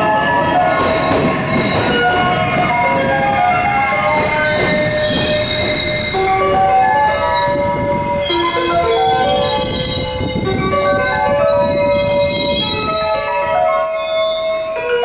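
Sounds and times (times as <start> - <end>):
train rumble: 0.0 - 15.0
train wheels and brakes squealing: 0.1 - 15.0.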